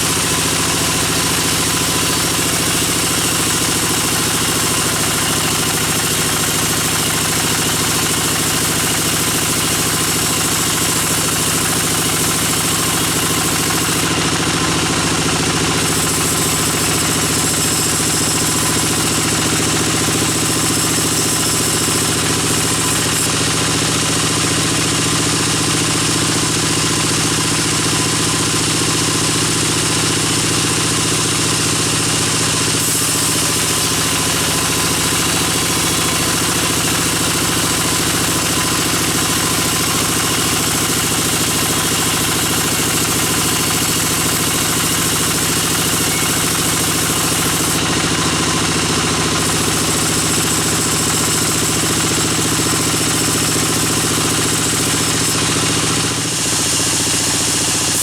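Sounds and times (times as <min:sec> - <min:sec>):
band saw machinery running: 0:00.0 - 0:58.0.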